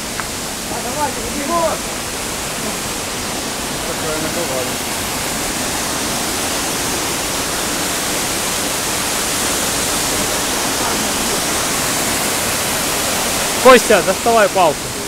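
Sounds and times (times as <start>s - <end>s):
river rushing over rocks: 0.0s - 15.0s
waterfall: 0.0s - 15.0s.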